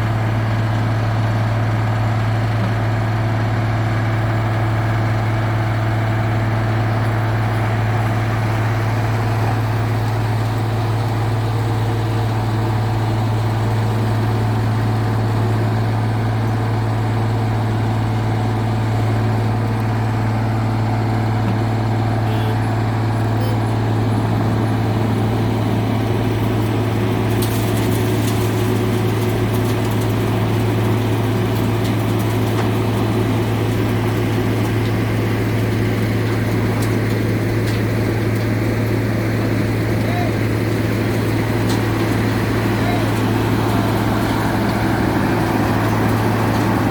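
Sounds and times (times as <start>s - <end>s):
heavy diesel machine droning: 0.0s - 46.9s.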